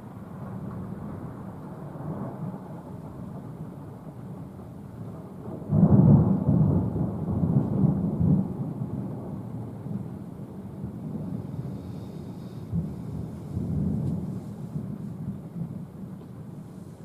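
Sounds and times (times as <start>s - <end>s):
thunder rumbling: 0.0s - 16.7s.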